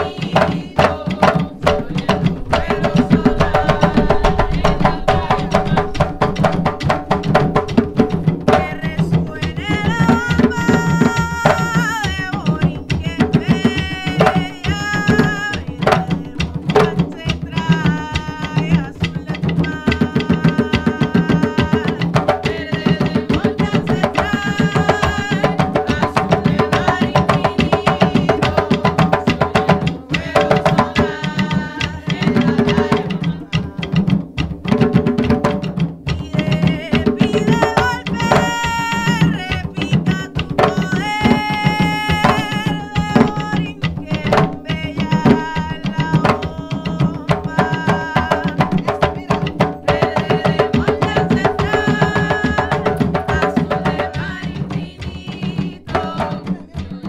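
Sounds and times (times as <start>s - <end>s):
hand drums playing fast rhythm: 0.0s - 57.0s
lead drum answering: 0.0s - 57.0s
people singing: 0.0s - 57.0s.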